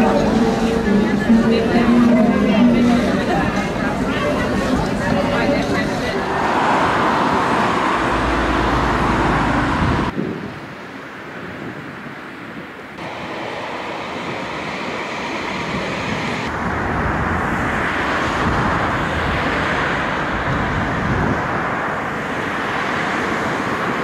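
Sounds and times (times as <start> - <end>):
steady outdoor rushing noise: 0.0 - 24.0.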